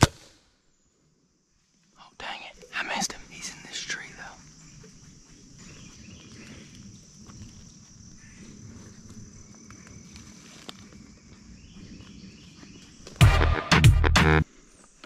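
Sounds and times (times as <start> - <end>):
insects buzzing: 0.0 - 13.2.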